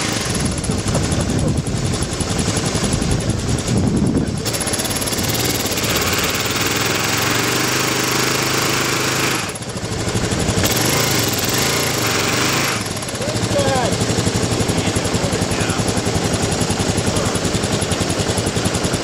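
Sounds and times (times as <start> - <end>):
motorcycle engine running: 0.0 - 19.0
wind and road noise: 0.0 - 19.0.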